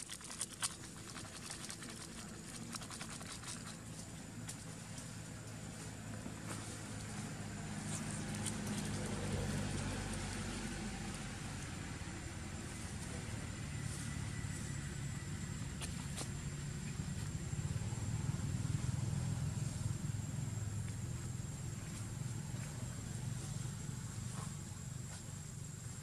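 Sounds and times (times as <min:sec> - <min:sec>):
motor engine humming: 0:00.8 - 0:25.3.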